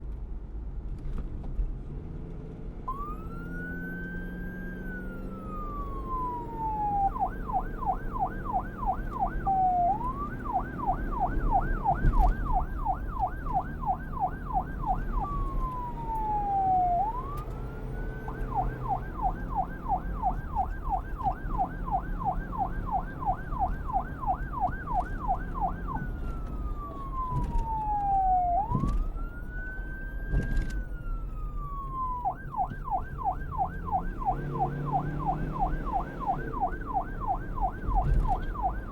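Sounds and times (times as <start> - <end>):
police car siren: 2.9 - 38.9.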